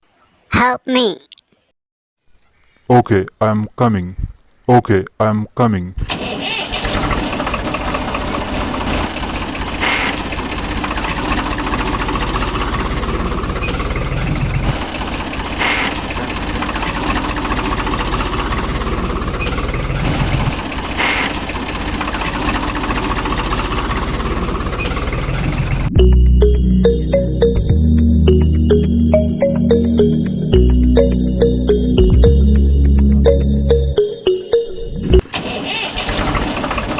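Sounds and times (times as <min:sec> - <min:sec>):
tractor engine running: 0:06.1 - 0:34.3, 0:35.0 - 0:36.9.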